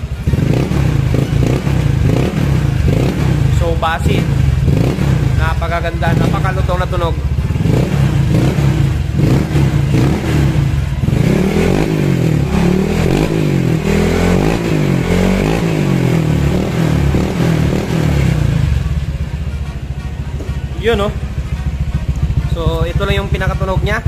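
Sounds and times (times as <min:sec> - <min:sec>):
scooter engine revving: 0:00.0 - 0:24.0.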